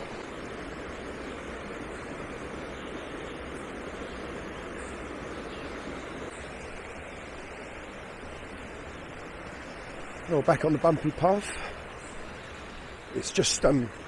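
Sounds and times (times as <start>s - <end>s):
brook flowing over stones: 0.0s - 14.0s.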